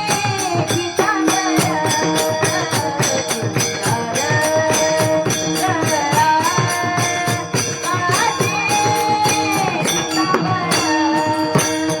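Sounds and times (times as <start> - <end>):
jingling percussion: 0.0 - 12.0
person singing devotional song: 0.0 - 12.0.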